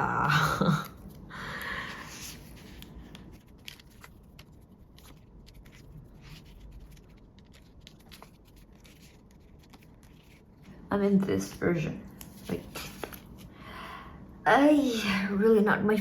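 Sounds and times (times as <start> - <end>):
plastic sleeves rustling: 0.1 - 13.5.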